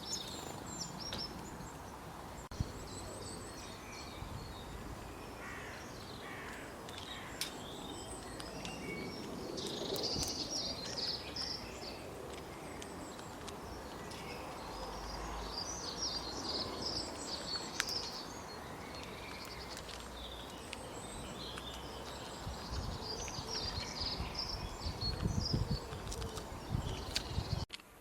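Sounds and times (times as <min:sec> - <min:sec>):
birds chirping and singing: 0:00.0 - 0:27.7
steady outdoor hiss: 0:00.0 - 0:28.0.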